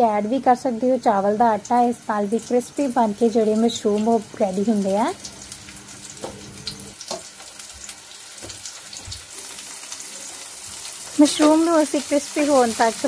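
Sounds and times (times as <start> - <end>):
mushrooms deep-frying in hot oil: 0.0 - 13.0.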